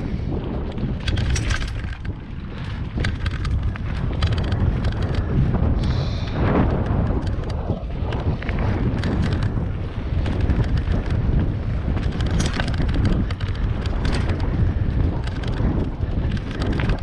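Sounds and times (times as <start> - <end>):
bike rattling and knocking: 0.0 - 17.0
wind buffeting microphone: 0.0 - 17.0
tyres on gravel: 0.6 - 17.0.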